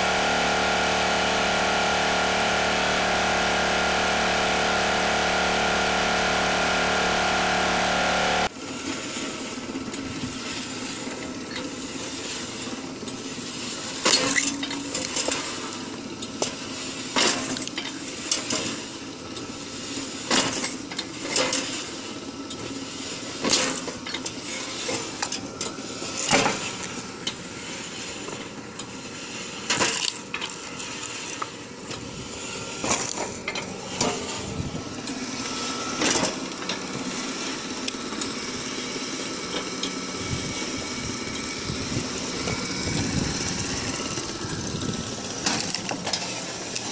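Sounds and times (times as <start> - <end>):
log splitter motor running: 0.0 - 46.9.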